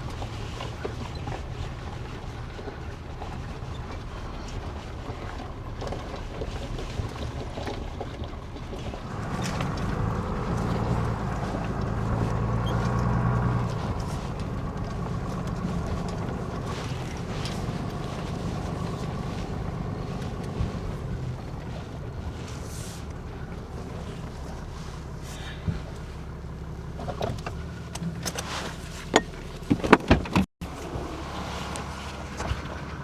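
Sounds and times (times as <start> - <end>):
truck engine running low speed: 0.0 - 33.0.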